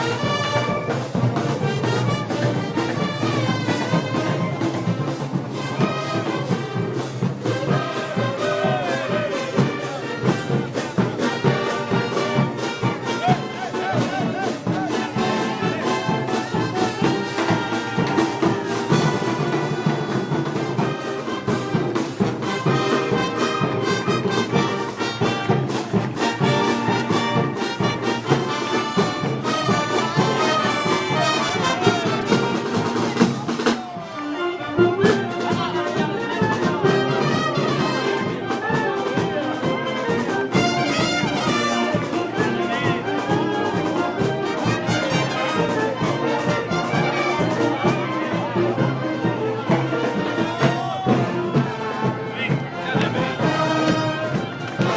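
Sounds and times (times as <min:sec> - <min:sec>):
steady drum beat: 0:00.0 - 0:34.0, 0:34.9 - 0:54.9
trumpets and trombones: 0:00.0 - 0:54.9.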